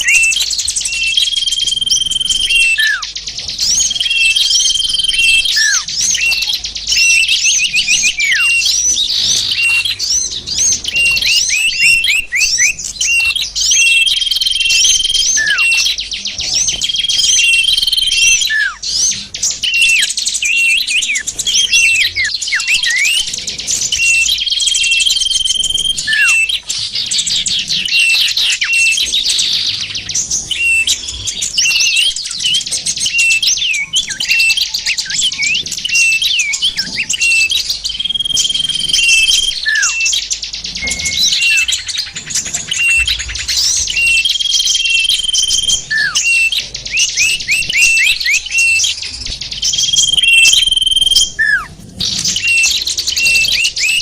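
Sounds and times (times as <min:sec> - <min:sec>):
falling bird whistles: 0:00.0 - 0:16.0, 0:16.6 - 0:23.3, 0:23.9 - 0:26.7, 0:30.2 - 0:42.1, 0:42.7 - 0:49.0, 0:49.6 - 0:54.0
songbirds chirping and twittering: 0:00.0 - 0:54.0.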